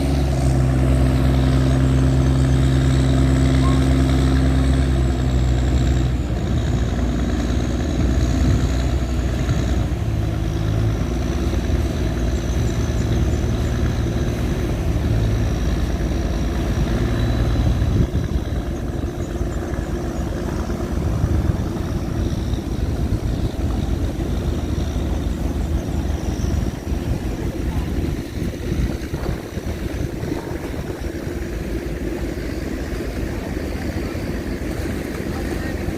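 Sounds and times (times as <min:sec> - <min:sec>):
tugboat engine droning: 0:00.0 - 0:35.9.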